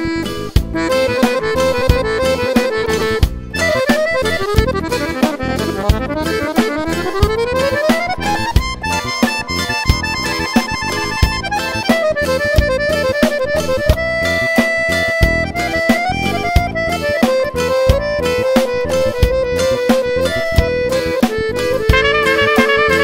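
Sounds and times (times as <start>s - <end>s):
accordion solo: 0.0s - 23.0s
backing track with steady beat: 0.0s - 23.0s.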